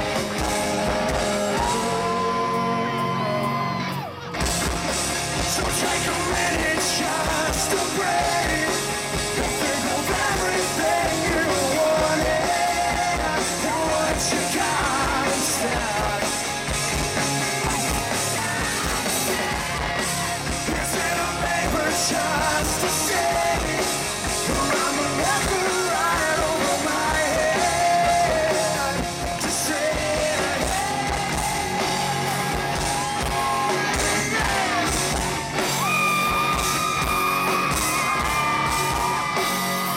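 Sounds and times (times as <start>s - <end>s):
pounding drum kit: 0.0s - 3.4s, 4.4s - 39.9s
male singer: 0.0s - 3.8s, 5.4s - 17.0s, 17.6s - 35.3s
bass guitar: 0.0s - 39.9s
distorted electric guitars: 0.0s - 39.9s.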